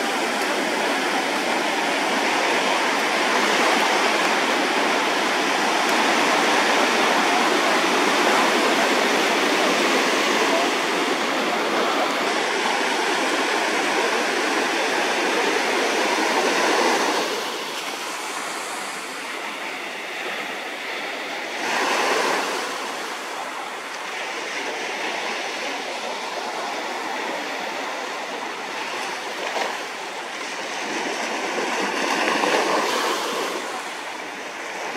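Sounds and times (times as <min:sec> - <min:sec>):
ocean surf washing in: 0:00.0 - 0:34.9.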